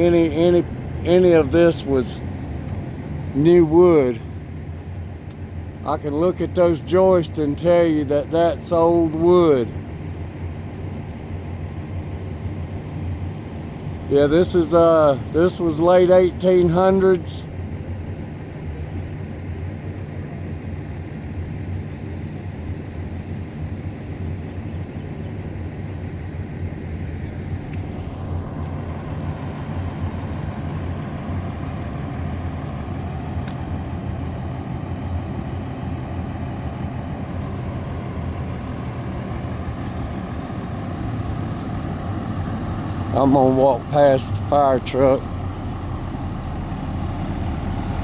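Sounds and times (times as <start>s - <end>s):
diesel engine idling: 0.0s - 18.4s, 24.4s - 48.0s.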